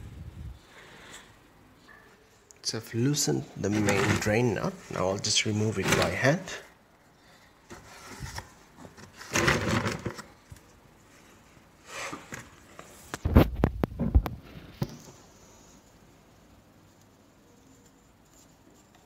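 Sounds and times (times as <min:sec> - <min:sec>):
rustling handling noise: 0:00.6 - 0:16.0.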